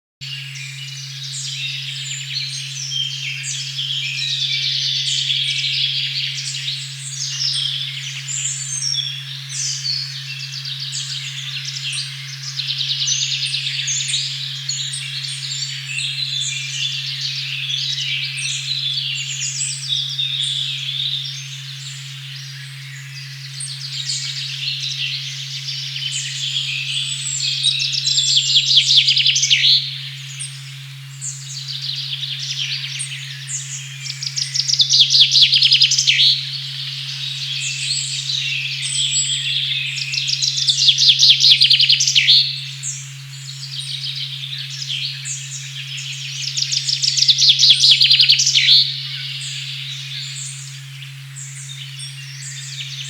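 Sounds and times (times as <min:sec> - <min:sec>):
birds chirping and trilling: 0:00.2 - 0:53.0
steady sine tone hum: 0:00.2 - 0:53.0.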